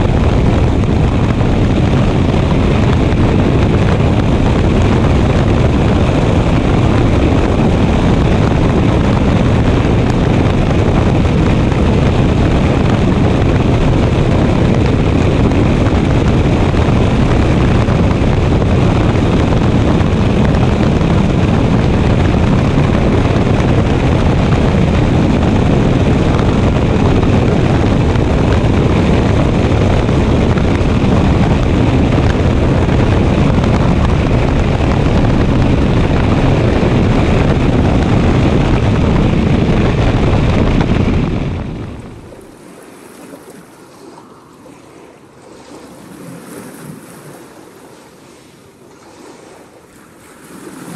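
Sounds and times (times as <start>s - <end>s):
outboard engines at full throttle: 0.0s - 50.9s
water rushing: 0.0s - 50.9s
wind noise on microphone: 0.0s - 50.9s.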